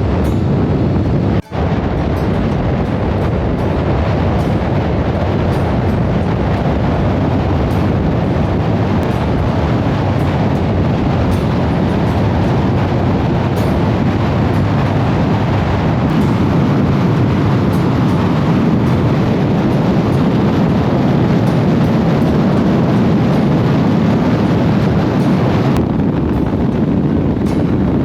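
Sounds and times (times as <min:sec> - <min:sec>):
wind noise: 0:00.0 - 0:28.0.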